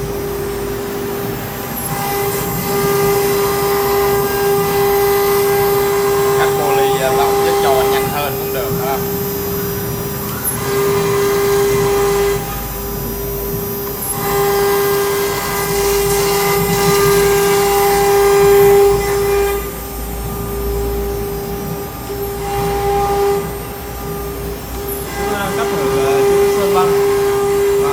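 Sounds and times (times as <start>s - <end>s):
cnc router spindle whine: 0.0s - 27.9s
cutter milling metal panel: 0.0s - 27.9s.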